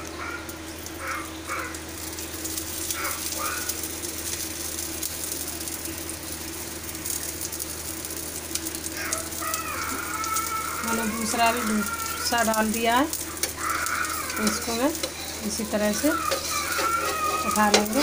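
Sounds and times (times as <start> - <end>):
batter sizzling and crackling: 0.0 - 18.0.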